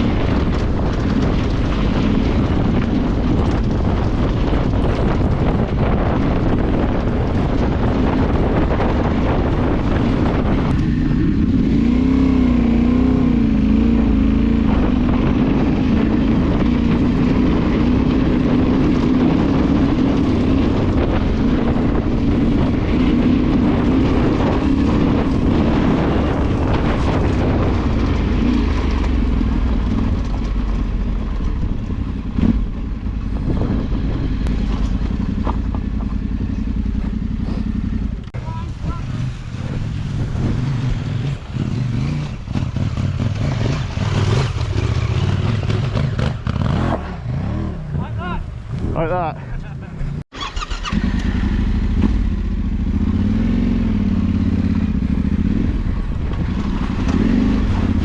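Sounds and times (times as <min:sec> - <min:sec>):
motorcycle engine revving: 0:00.0 - 0:58.0
riding rumble: 0:00.0 - 0:58.0.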